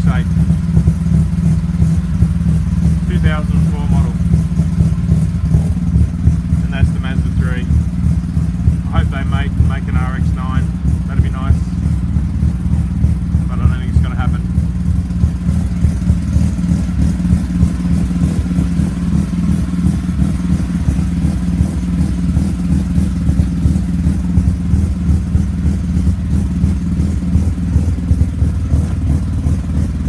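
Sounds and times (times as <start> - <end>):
rotary engine fast idle: 0.0 - 30.0.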